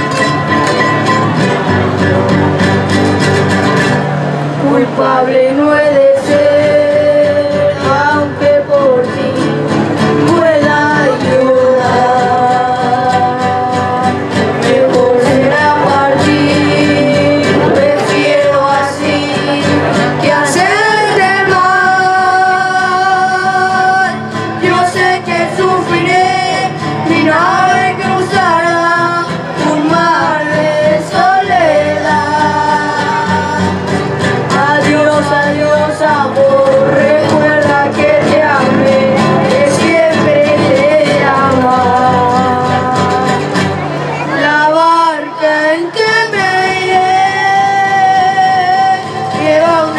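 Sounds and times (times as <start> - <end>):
acoustic guitars strumming: 0.0 - 49.9
boys singing together: 4.6 - 43.7, 44.3 - 49.9.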